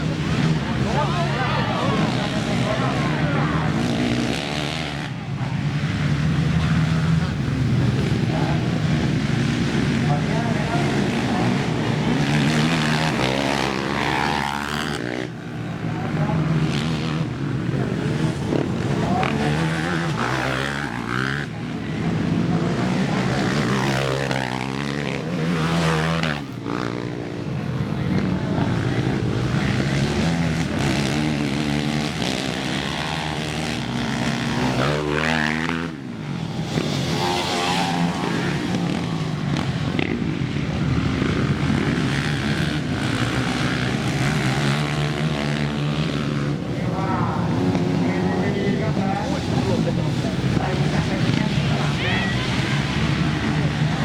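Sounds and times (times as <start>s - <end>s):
atv engines revving: 0.0s - 54.0s.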